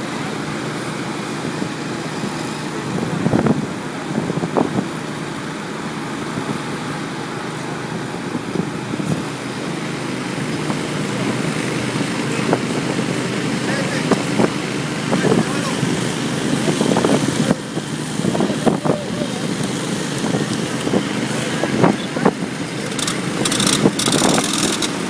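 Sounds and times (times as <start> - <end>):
petrol water pump running: 0.0 - 25.0
truck engine idling: 0.0 - 25.0.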